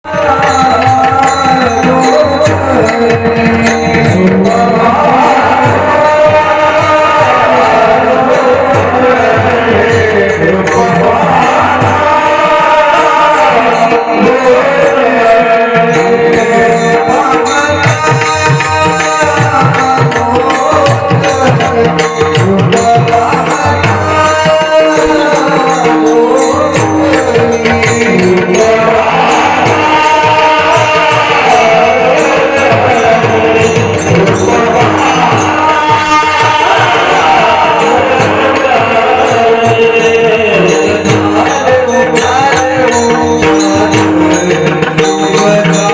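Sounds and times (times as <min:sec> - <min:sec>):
jingling hand cymbals: 0:00.0 - 0:45.9
person singing devotional melody: 0:00.0 - 0:45.9
steady drum rhythm: 0:00.0 - 0:45.9.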